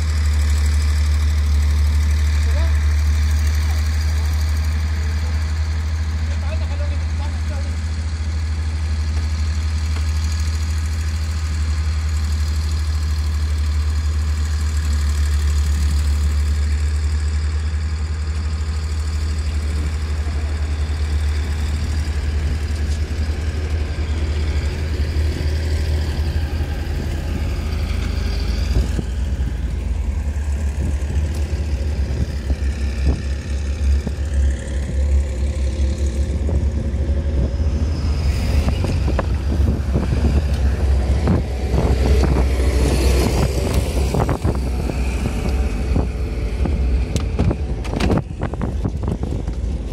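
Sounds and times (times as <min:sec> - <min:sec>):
vehicle engine humming: 0:00.0 - 0:49.9
vehicle rumbling on dirt track: 0:00.0 - 0:49.9.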